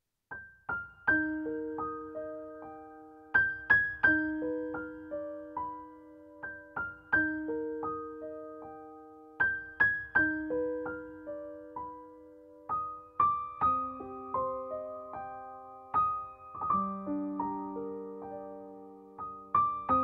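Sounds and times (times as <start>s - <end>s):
gentle piano melody: 0.3s - 20.0s.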